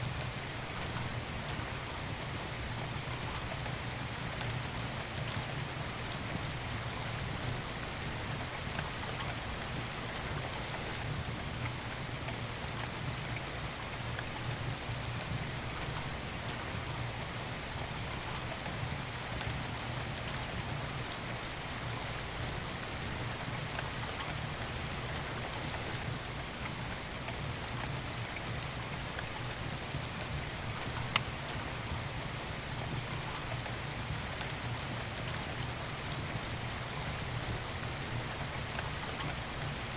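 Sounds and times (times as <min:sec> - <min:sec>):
faint drips and ticks: 0:00.0 - 0:39.9
steady rain falling: 0:00.0 - 0:39.9.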